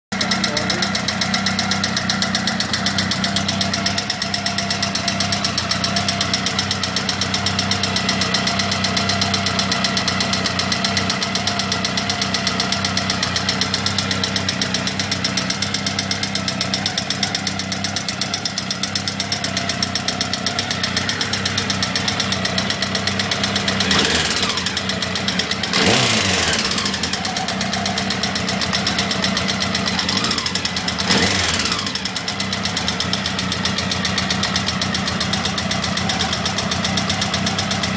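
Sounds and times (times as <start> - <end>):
motorcycle engine idling with rattle: 0.1 - 37.9.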